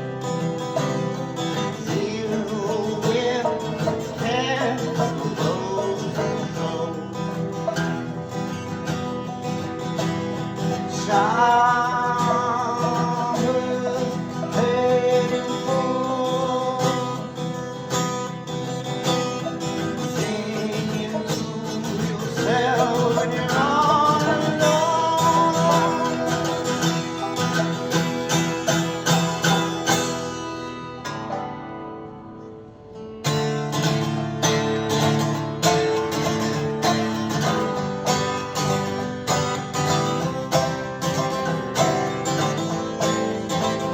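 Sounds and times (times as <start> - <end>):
acoustic bluegrass duo: 0.0 - 43.9
picked acoustic guitar: 0.0 - 43.9.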